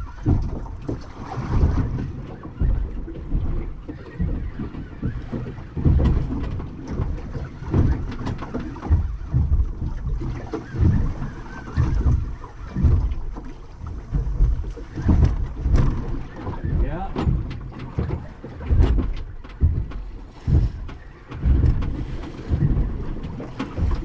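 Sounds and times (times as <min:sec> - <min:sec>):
water slapping boat hull: 0:00.0 - 0:24.0
wind buffeting microphone: 0:00.0 - 0:24.0.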